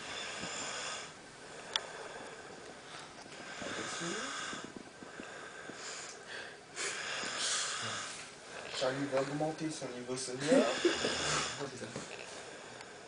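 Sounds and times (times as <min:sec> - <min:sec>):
raspy snoring breaths: 0:00.0 - 0:09.4, 0:10.6 - 0:13.0.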